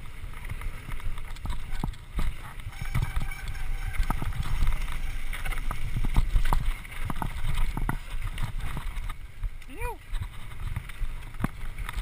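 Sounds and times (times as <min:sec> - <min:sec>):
bike rattling over bumps: 0:00.0 - 0:12.0
bike tyre rumble on dirt: 0:00.0 - 0:12.0
wind buffeting microphone: 0:00.0 - 0:12.0.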